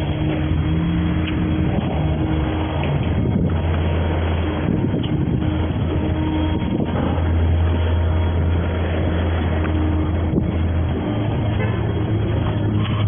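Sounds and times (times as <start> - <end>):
road and wind noise: 0.0 - 13.0
truck engine drone: 0.0 - 13.0.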